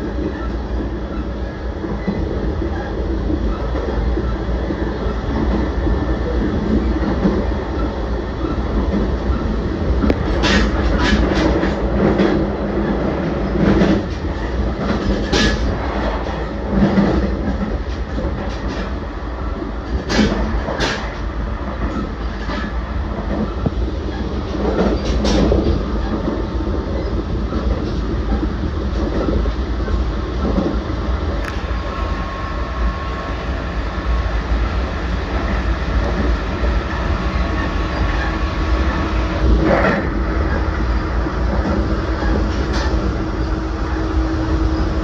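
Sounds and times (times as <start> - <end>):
train running at speed: 0.0 - 45.0.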